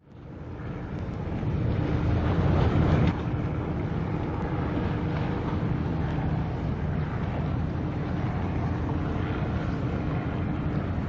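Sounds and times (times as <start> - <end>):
low engine rumble: 0.0 - 11.0
wind noise on microphone: 0.0 - 11.0.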